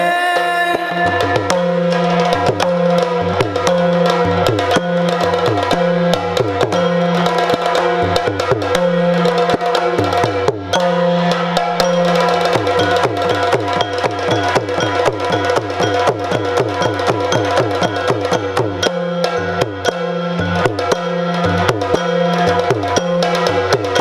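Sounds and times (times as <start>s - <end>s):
fast drumming: 0.0s - 24.0s.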